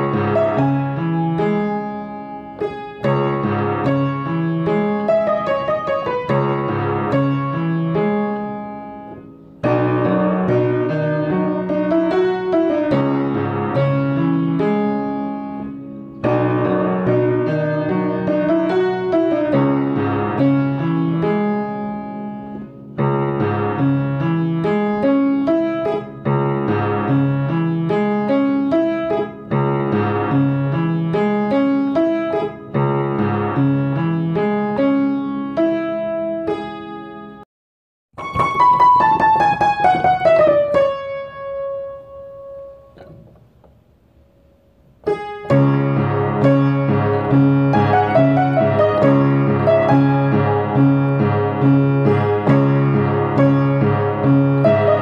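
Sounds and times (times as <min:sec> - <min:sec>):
solo piano music: 0:00.0 - 0:37.5, 0:38.2 - 0:55.0.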